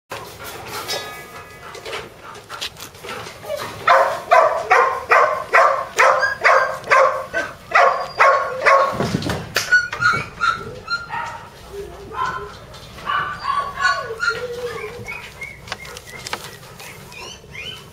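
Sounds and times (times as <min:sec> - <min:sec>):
puppy yelping whines: 0:03.4 - 0:17.9.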